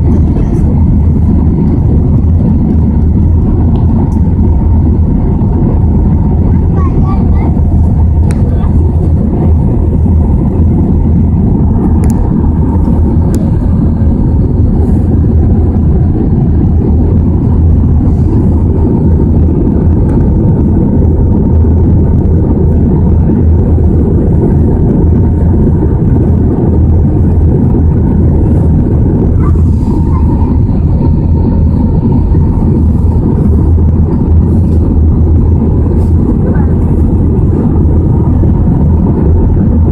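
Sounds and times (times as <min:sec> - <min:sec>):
faint steady hum: 0:00.0 - 0:39.9
jet cabin roar: 0:00.0 - 0:39.9.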